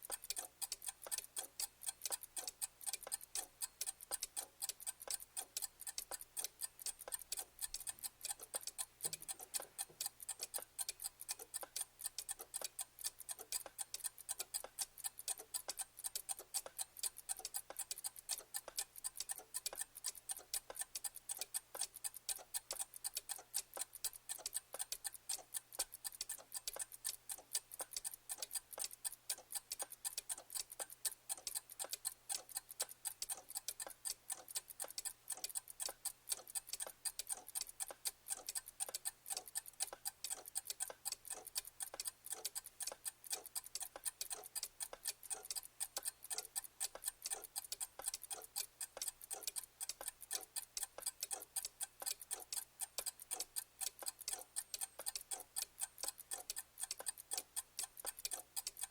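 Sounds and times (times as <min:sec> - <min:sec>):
clock ticking: 0:00.0 - 0:58.9.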